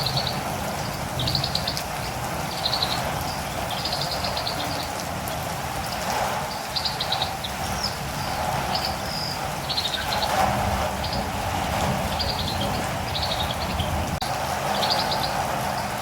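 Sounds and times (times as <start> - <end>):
birds chirping: 0.0 - 16.0
rain hiss: 0.0 - 16.0.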